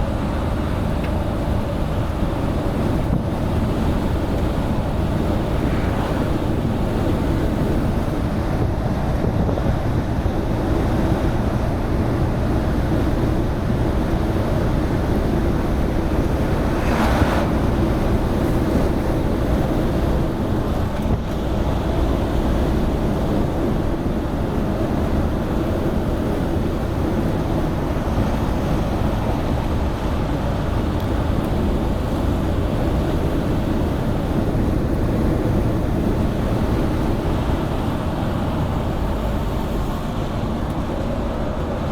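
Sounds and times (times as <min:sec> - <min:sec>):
truck engine and road noise: 0:00.0 - 0:41.9
wind buffeting microphone: 0:00.0 - 0:41.9.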